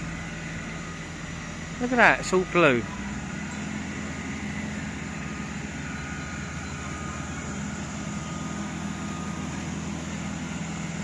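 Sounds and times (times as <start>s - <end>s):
low mechanical hum: 0.0s - 11.0s
street background noise: 0.0s - 11.0s.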